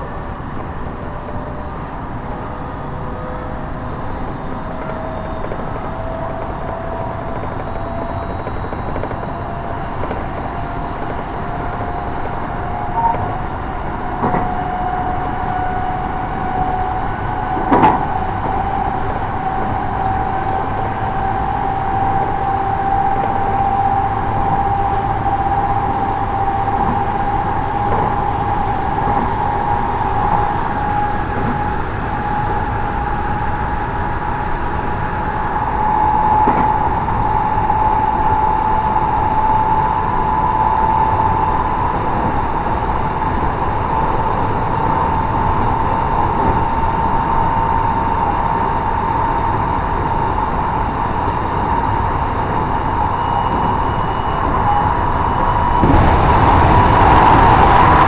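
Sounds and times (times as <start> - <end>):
train wheels rumbling on rail: 0.0 - 58.0
traction motor whine: 2.6 - 58.0.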